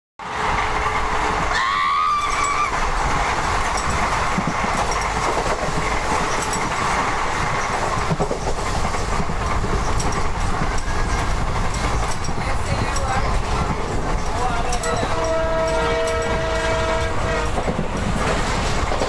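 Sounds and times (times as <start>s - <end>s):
passing train coaches: 0.2s - 19.0s
train wheels rumbling on rail: 0.2s - 19.0s.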